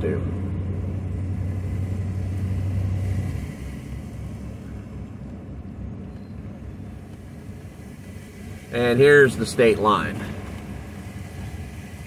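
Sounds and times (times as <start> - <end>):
low engine hum: 0.0 - 12.0
road and running noise: 0.0 - 12.0.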